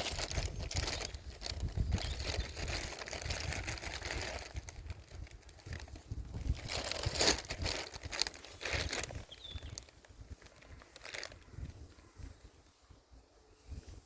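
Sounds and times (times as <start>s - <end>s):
rustling and crinkling: 0.0s - 14.0s
wind rumbling on microphone: 0.0s - 14.0s.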